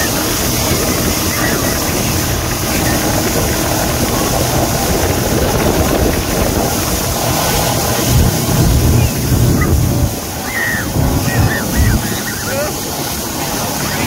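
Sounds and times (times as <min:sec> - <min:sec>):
motorboat engine running: 0:00.0 - 0:14.0
water rushing in wake: 0:00.0 - 0:14.0.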